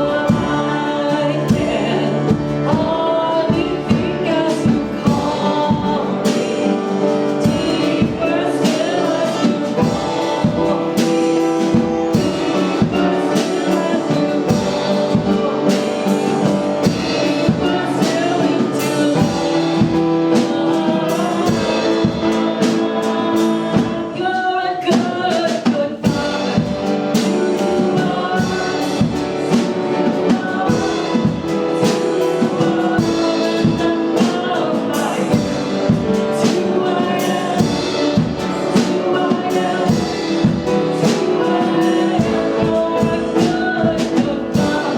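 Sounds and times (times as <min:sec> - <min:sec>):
drum kit beat: 0:00.0 - 0:44.9
people singing: 0:00.0 - 0:44.9
worship band playing: 0:00.0 - 0:44.9.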